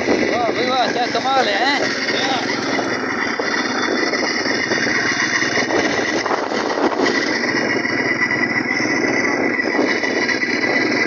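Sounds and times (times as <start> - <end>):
small bicycle engine running: 0.0 - 11.0
steady high whine: 0.0 - 11.0.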